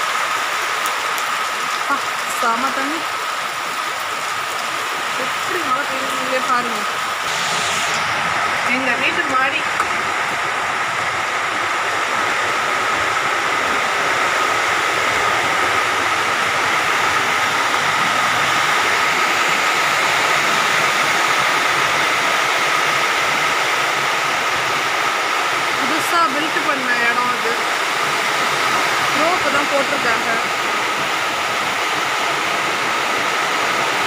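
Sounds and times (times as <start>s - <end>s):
heavy rain splashing on concrete: 0.0s - 34.0s.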